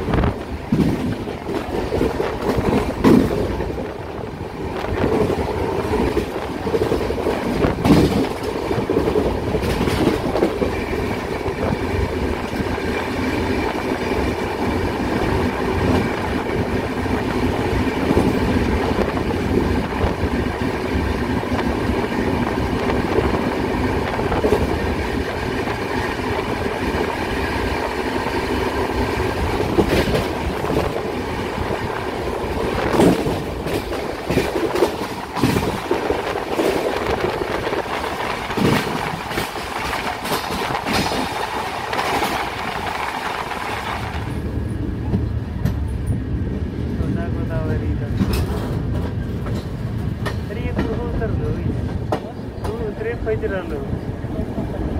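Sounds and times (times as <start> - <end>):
wheels clacking over rail joints: 0.0 - 46.2, 48.0 - 54.8
train wheels rumbling on rails: 0.0 - 54.9.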